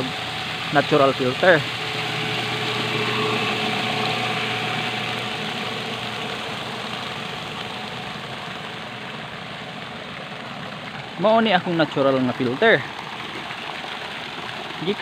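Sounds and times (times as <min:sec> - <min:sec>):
motor hum: 0:00.0 - 0:15.0
water splashing: 0:00.0 - 0:15.0.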